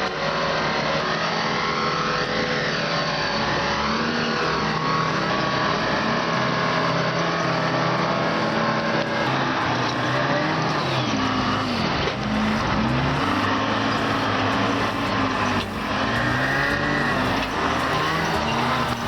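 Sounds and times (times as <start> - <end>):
steady mechanical noise: 0.0 - 19.0
vehicle engine revving: 0.0 - 19.0.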